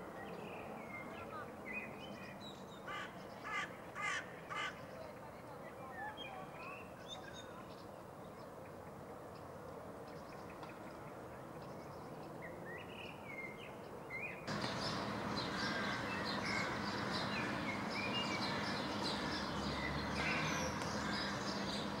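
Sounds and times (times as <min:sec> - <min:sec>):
outdoor background noise: 0:00.0 - 0:22.0
songbirds chirping: 0:00.0 - 0:22.0.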